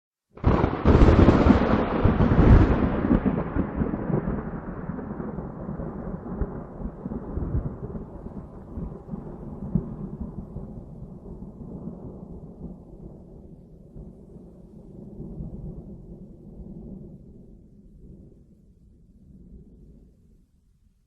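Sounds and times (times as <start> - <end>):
thunder peal and low rumble: 0.4 - 20.5.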